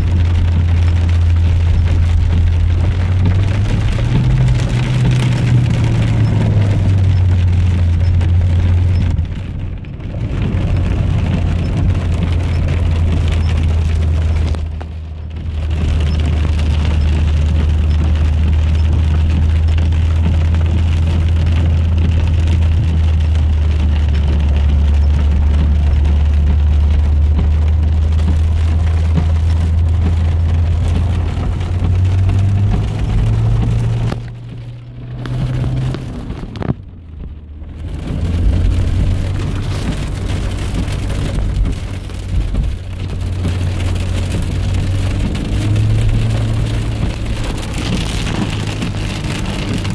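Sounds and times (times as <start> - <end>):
engine and tyres drone: 0.0 - 49.9
rain falling on car: 0.0 - 49.9.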